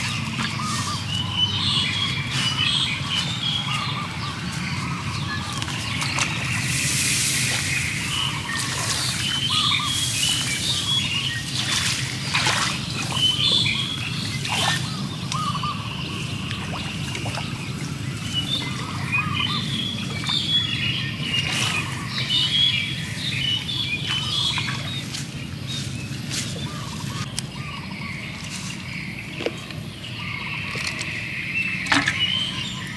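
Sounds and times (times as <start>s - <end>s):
water sloshing and splashing: 0.0s - 27.3s, 30.6s - 32.9s
small birds chirping: 0.0s - 32.9s.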